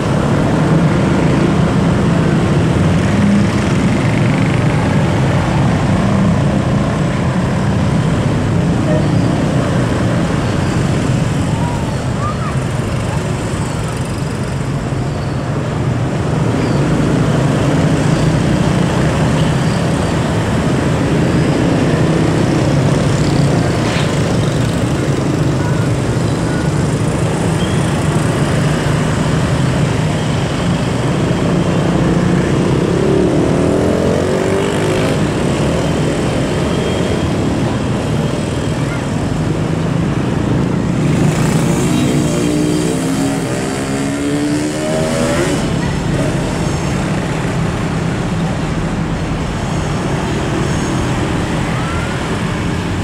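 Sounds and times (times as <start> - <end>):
road traffic noise: 0.0 - 53.0.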